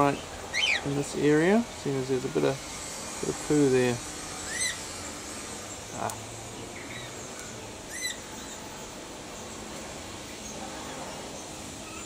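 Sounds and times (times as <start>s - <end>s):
birds chirping: 0.0s - 12.0s
steady background noise: 0.0s - 12.0s.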